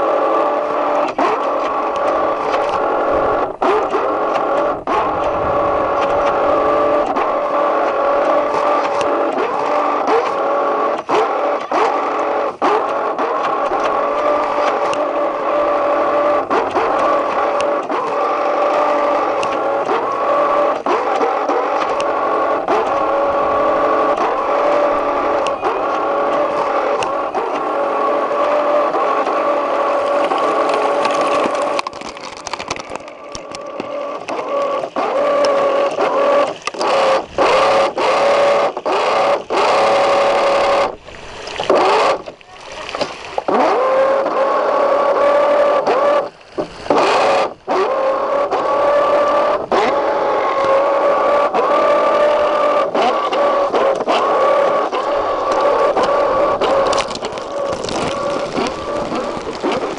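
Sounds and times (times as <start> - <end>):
boat motor droning: 0.0 - 59.9.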